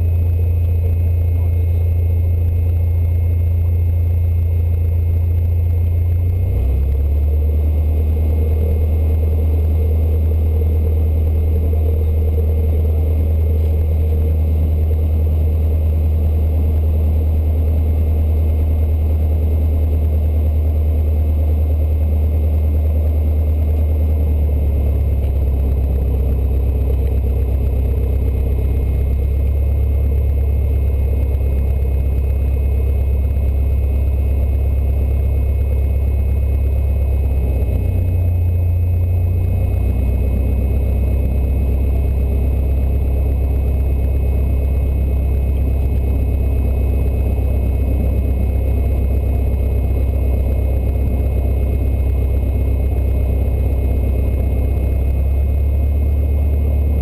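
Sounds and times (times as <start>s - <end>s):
small plane engine droning: 0.0s - 57.0s.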